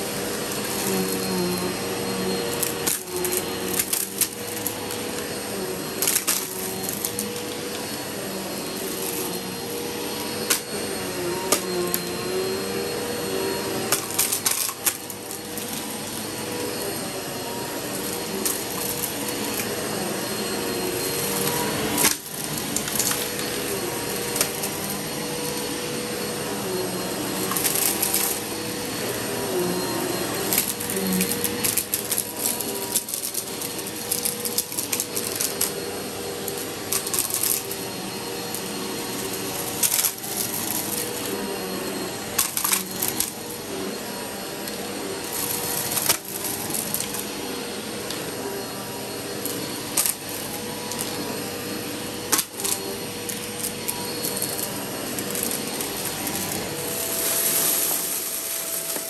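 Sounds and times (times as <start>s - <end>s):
vacuum cleaner motor humming: 0.0s - 59.0s.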